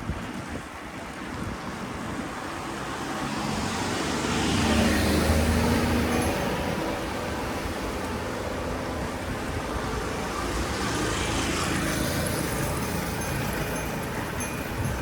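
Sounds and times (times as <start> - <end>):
cars going by: 0.1 - 15.0.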